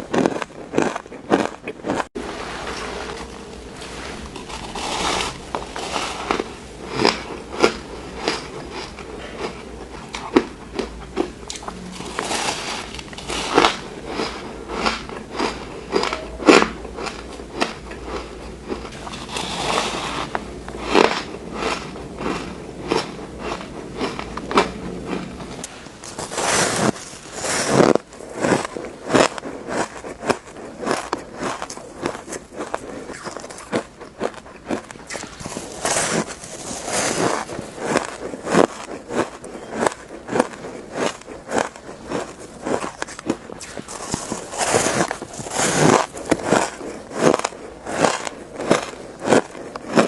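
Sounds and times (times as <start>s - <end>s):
chewing crunchy shaved ice: 0.0s - 50.0s.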